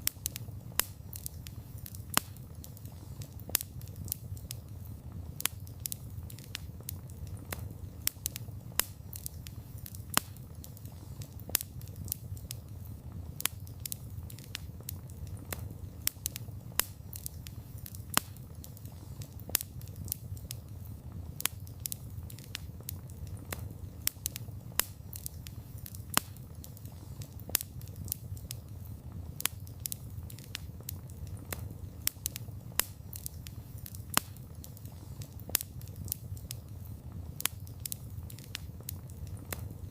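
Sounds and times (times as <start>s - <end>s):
burning wood snapping and popping: 0.0s - 39.9s
low rumble of burning: 0.0s - 39.9s
wood fire crackling: 0.0s - 39.9s.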